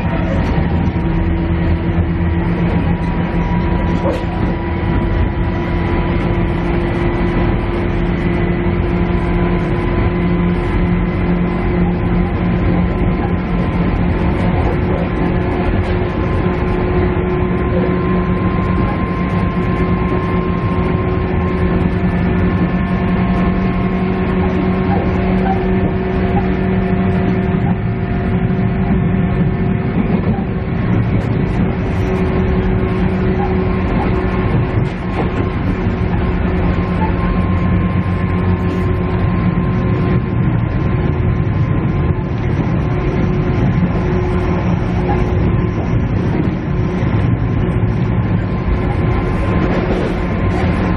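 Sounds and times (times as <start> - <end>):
diesel engine drone: 0.0 - 50.9
held hum tones: 0.0 - 50.9
wheel and rail noise: 0.0 - 50.9.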